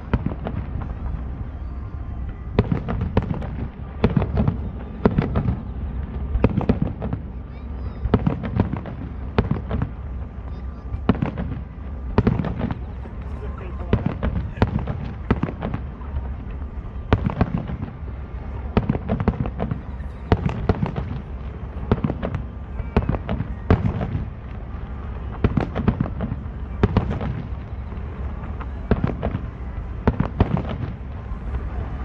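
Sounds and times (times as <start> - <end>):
firework bangs and cracks: 0.0 - 1.6, 2.2 - 32.0.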